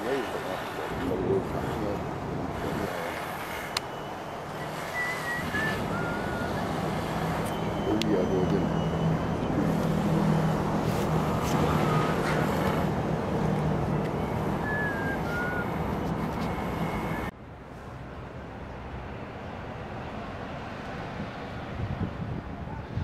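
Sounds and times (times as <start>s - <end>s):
traffic hum: 0.0s - 23.0s.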